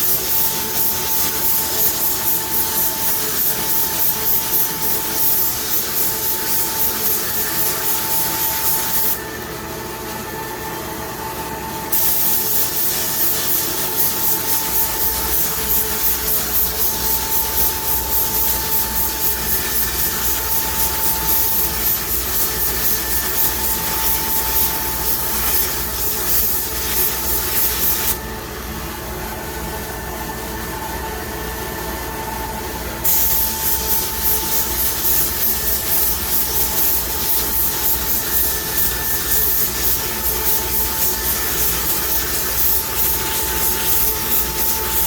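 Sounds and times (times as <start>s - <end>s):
spray gun hissing: 0.0s - 9.2s, 11.9s - 28.2s, 33.0s - 45.0s.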